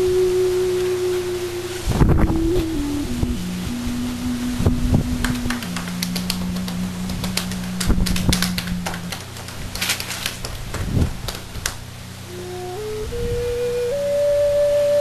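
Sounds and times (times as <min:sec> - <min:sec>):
music of low held notes: 0:00.0 - 0:11.2, 0:11.8 - 0:15.0.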